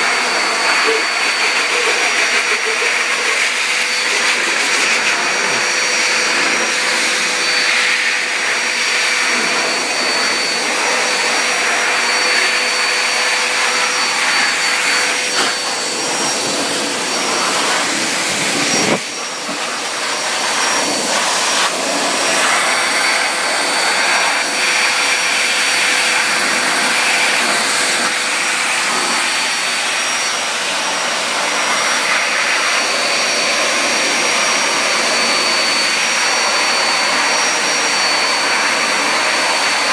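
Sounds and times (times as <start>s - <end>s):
blow dryer blowing air: 0.0s - 39.9s.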